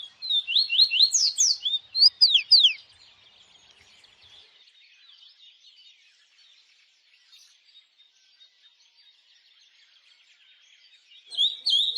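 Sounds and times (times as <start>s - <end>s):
small songbirds chirping: 0.0s - 11.9s.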